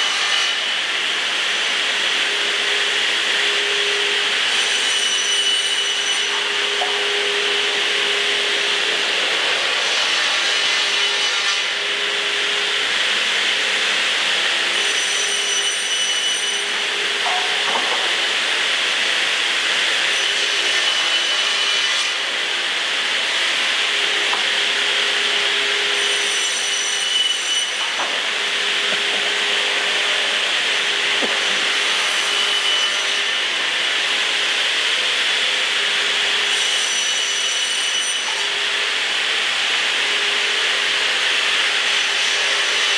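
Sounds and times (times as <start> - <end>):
saw blade whine cutting wood: 0.0 - 42.9
saw machine hum and hiss: 0.0 - 42.9.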